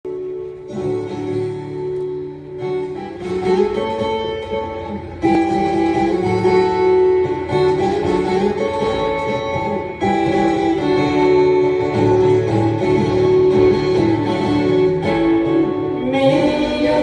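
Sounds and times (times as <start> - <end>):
plucked ten-string guitar: 0.0 - 17.0.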